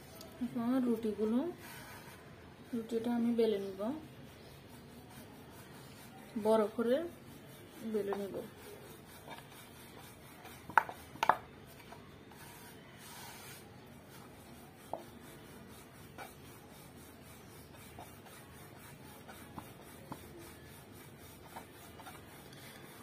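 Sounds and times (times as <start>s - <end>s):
rolling pin rubbing on dough: 0.6s - 23.0s.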